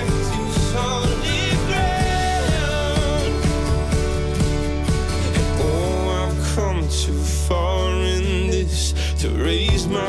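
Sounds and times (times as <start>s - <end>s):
pop song with bass: 0.0s - 10.0s.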